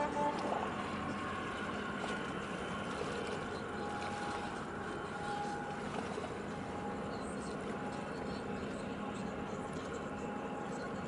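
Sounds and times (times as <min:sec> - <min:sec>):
distant port machinery hum: 0:00.0 - 0:11.0.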